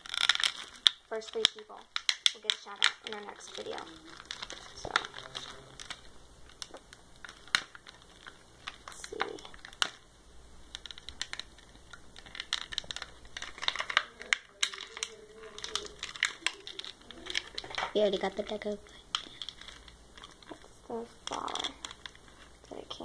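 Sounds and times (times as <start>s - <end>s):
plastic blister pack crinkling: 0.0s - 23.0s.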